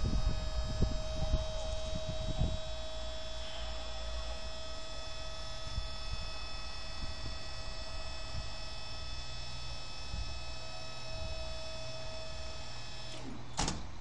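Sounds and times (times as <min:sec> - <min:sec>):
hydraulic pump humming: 0:00.0 - 0:14.0.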